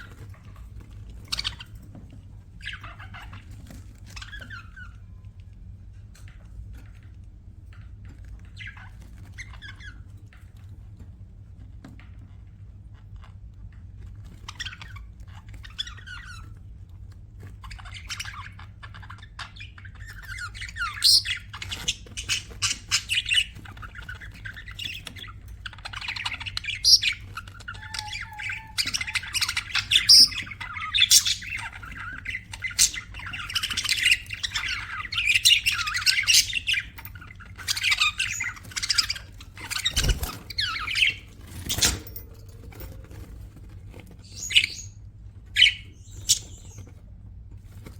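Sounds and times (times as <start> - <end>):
budgerigars chirping and squawking: 0.0 - 47.9.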